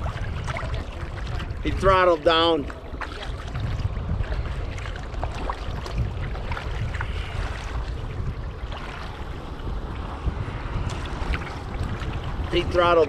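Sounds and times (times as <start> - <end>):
water splashing around kayak: 0.0 - 13.0
wind rumbling on microphone: 0.0 - 13.0.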